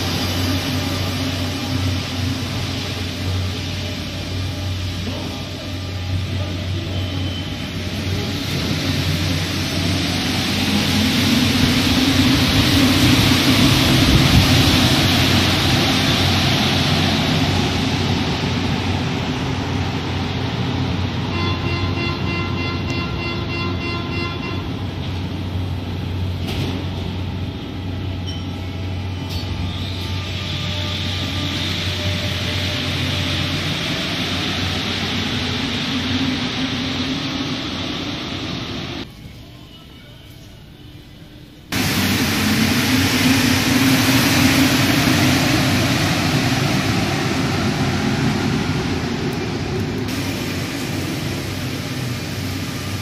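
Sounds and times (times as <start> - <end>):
metro train running with motor whine: 0.0 - 53.0.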